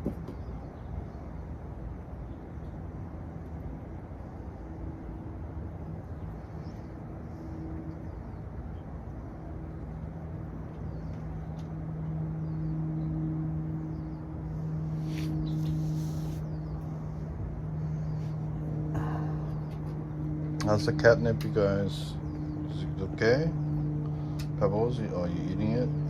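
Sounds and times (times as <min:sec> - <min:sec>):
low motor hum: 0:00.0 - 0:26.0
outdoor background noise: 0:00.0 - 0:26.0.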